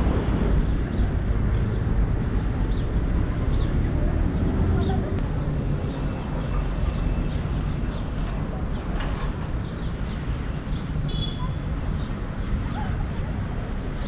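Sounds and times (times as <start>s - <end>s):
low street rumble: 0.0s - 14.0s.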